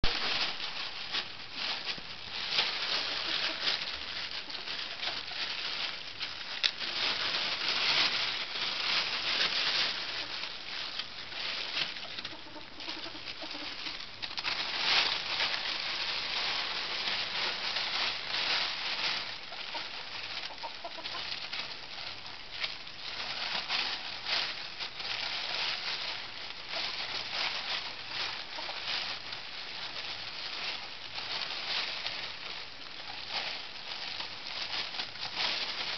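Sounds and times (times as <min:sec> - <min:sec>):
plastic bag crinkling: 0:00.0 - 0:35.9.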